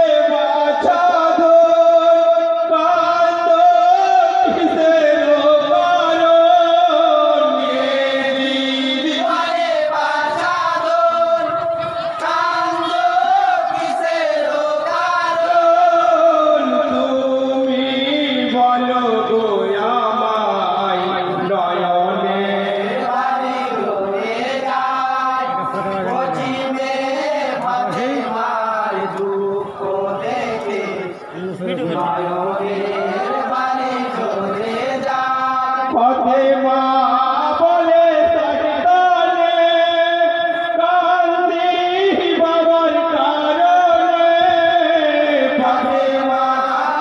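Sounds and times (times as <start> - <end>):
men chanting a lament: 0.0 - 47.0
men singing in unison: 0.0 - 47.0.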